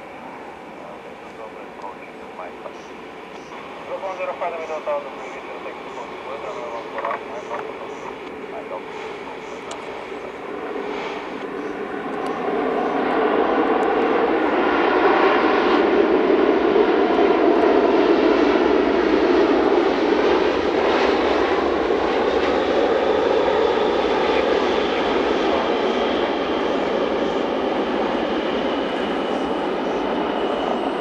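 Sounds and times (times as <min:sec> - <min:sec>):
jet engines running loud: 0:00.0 - 0:31.0.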